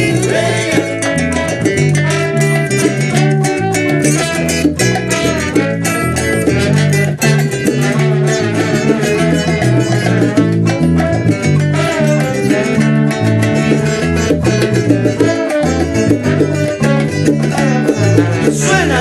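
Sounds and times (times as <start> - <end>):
instrumental salsa music: 0.0 - 19.0.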